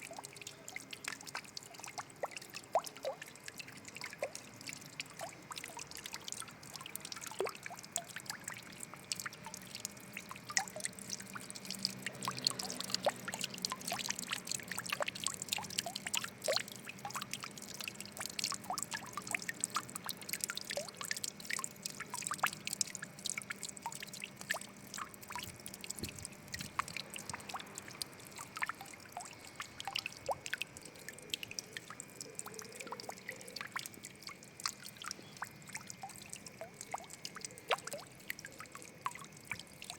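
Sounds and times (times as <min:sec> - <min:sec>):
water drops pattering: 0:00.0 - 0:39.9
water trickling and splashing: 0:00.0 - 0:39.9.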